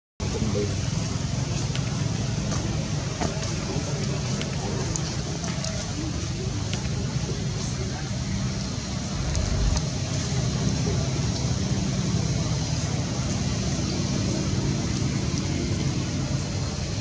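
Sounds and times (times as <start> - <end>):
low traffic rumble: 0.2 - 17.0.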